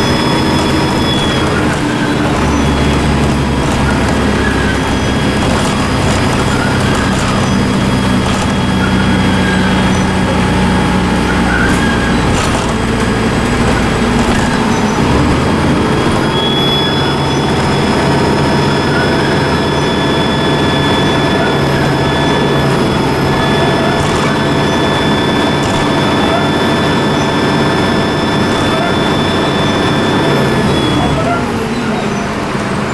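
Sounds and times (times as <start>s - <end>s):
high turbocharger whistle: 0.0s - 32.4s
bus engine running: 0.0s - 32.9s.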